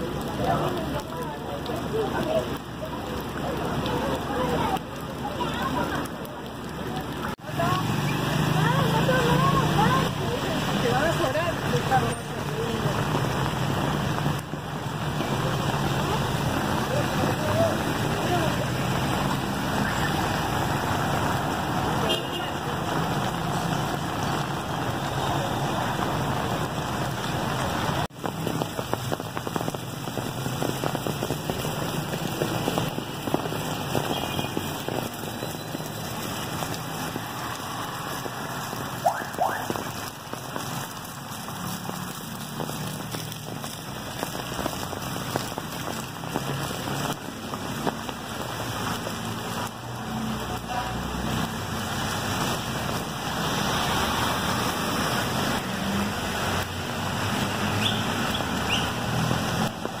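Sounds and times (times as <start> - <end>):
heavy rain on pavement: 0.0 - 60.0.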